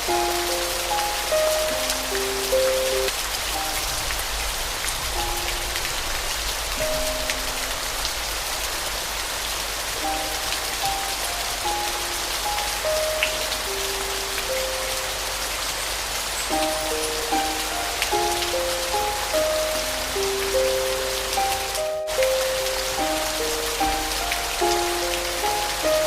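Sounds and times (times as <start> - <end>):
soft slow piano notes: 0.0 - 26.0
steady rain hiss: 0.0 - 26.0.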